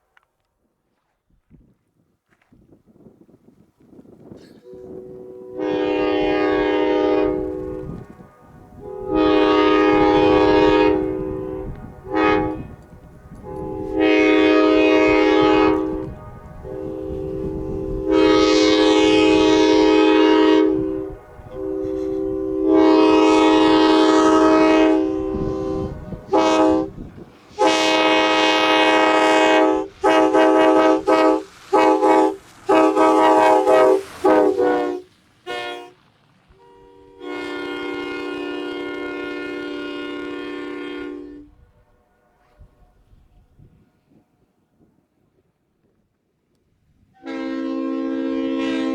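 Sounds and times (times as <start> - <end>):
passing train rumble: 2.8 - 48.9
locomotive air horn blasts: 4.6 - 43.4, 47.1 - 48.9.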